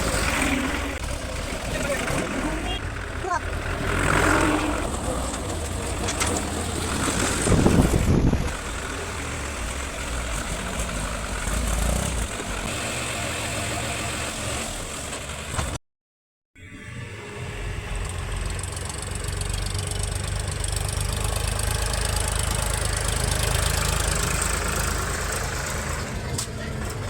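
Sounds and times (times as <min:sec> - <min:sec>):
diesel engine rumbling: 0:00.0 - 0:15.8, 0:16.7 - 0:27.0.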